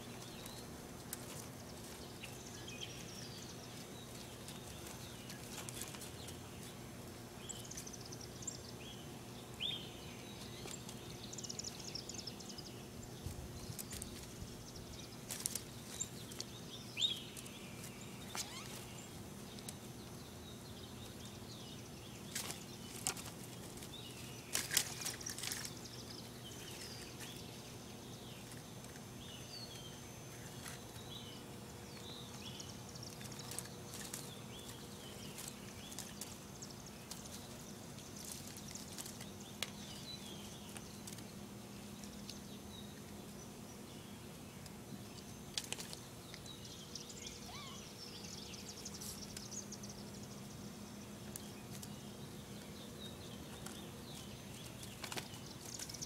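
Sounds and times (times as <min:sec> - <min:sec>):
dry twigs crackling and rustling: 0:00.0 - 0:08.5, 0:10.0 - 0:43.5, 0:44.2 - 0:47.3, 0:51.0 - 0:56.0
small birds chirping: 0:00.0 - 0:56.0
steady low hum: 0:00.0 - 0:56.0.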